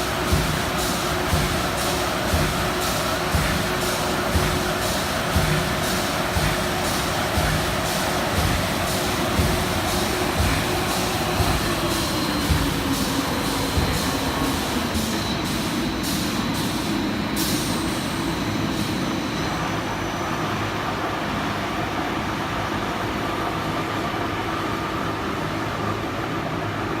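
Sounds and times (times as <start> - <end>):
machinery droning: 0.0 - 27.0.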